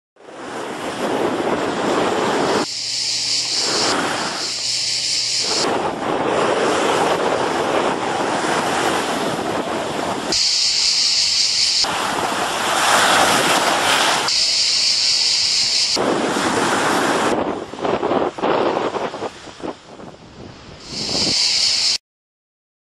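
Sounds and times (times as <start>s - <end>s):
waves breaking on sandy beach: 0.2s - 22.0s.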